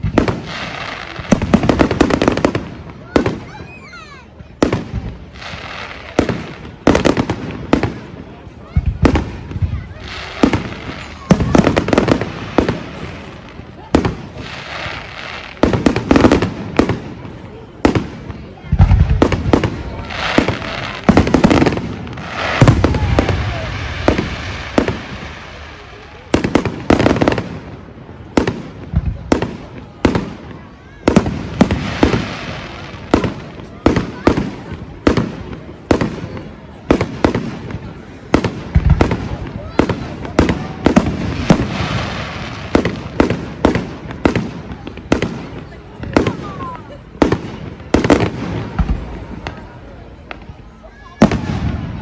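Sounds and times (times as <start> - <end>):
fireworks bangs: 0.0 - 52.0
fireworks fizzing crackle: 0.0 - 52.0.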